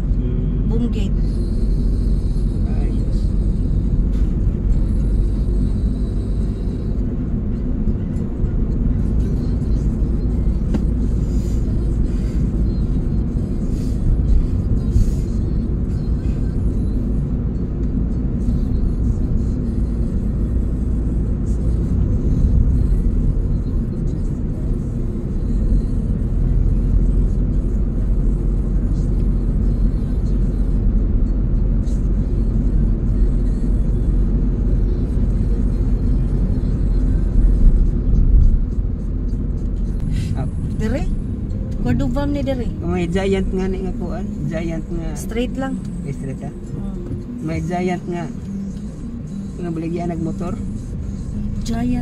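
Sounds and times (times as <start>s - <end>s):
car cabin road rumble: 0.0s - 52.0s.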